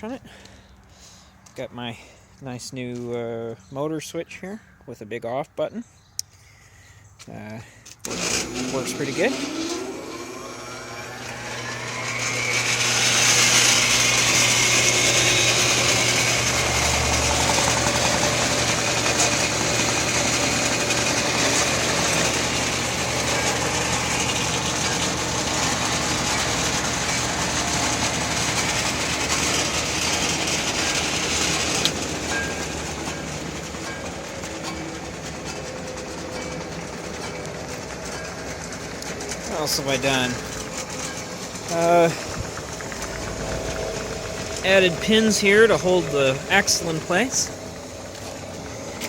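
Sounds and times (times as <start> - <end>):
electric motor humming: 8.0 - 49.0
wood chunker mechanical clatter: 8.0 - 49.0.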